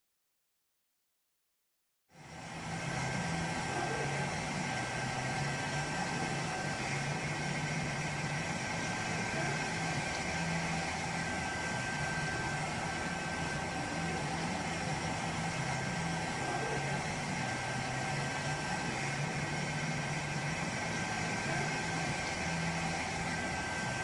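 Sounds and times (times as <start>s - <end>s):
low mechanical hum: 2.1s - 24.0s.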